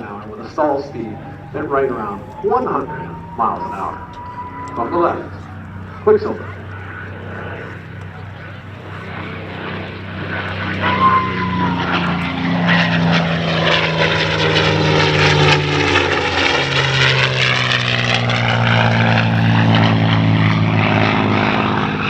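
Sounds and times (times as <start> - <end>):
propeller plane engine passing: 0.0 - 22.0.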